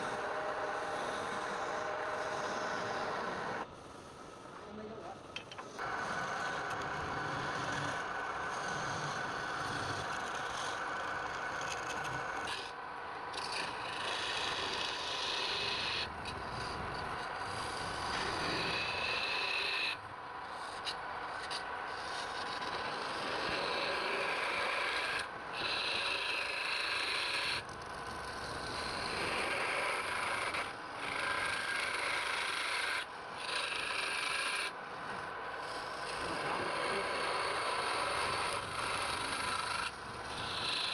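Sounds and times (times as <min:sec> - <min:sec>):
tool scraping spinning wood: 0:00.0 - 0:03.7, 0:04.7 - 0:40.9
wood lathe running: 0:00.0 - 0:03.7, 0:05.8 - 0:40.9.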